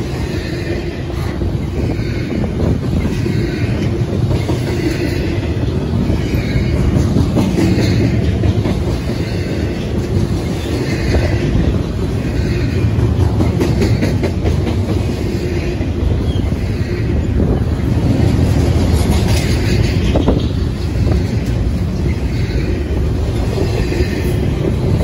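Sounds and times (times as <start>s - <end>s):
wheels clicking over rail joints: 0.8s - 16.7s, 17.3s - 25.0s.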